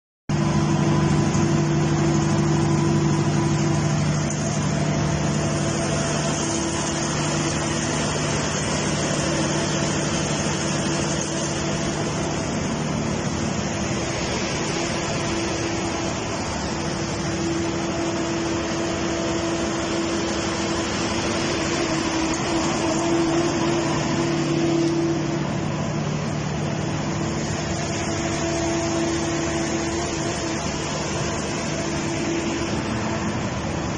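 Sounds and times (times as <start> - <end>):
broad rushing noise: 0.3 - 33.9
generator engine hum: 0.3 - 33.9.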